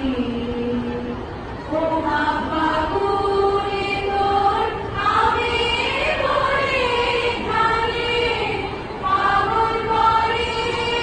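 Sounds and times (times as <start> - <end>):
girls singing in unison: 0.0 - 11.0.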